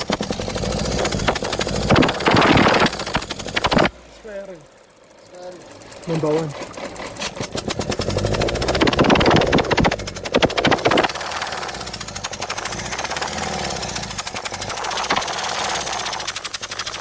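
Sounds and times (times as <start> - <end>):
starter motor cranking engine: 0.0 - 17.0.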